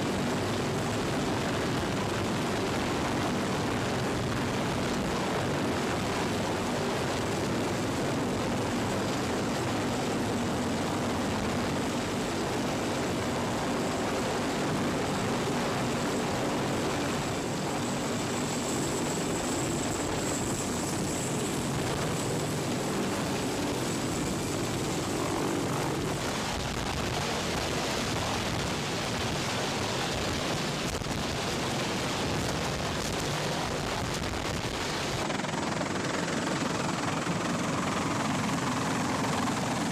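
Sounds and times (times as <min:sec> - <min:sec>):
helicopter hovering overhead: 0:00.0 - 0:39.9
wind blowing across microphone: 0:00.0 - 0:39.9.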